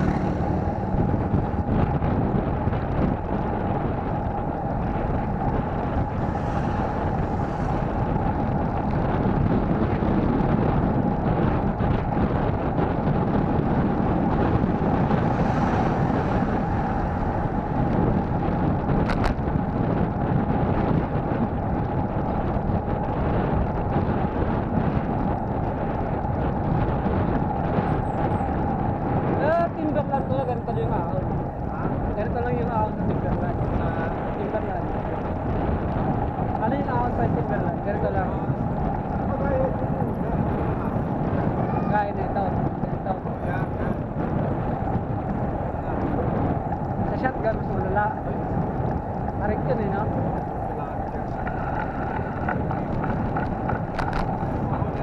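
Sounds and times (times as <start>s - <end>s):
bicycle road noise: 0.0s - 55.0s
wind buffeting microphone: 0.0s - 55.0s.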